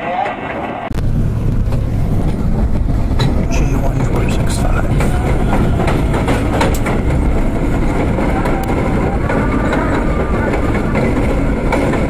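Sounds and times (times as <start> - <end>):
subway train rumbling: 0.0 - 12.0
wheel and rail clicks: 1.6 - 12.0.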